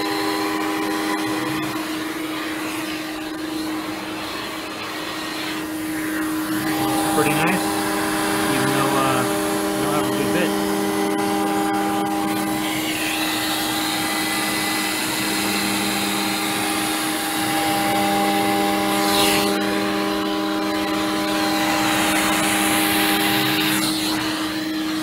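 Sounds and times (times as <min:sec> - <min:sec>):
constant hum tones: 0:00.0 - 0:25.0
router spindle cutting: 0:00.0 - 0:25.0
vacuum droning: 0:00.0 - 0:25.0.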